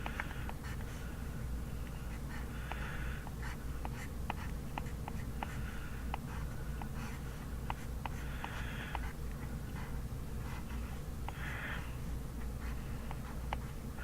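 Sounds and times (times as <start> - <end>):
low room hum: 0.0 - 14.0
pen scratching on paper: 2.0 - 13.8.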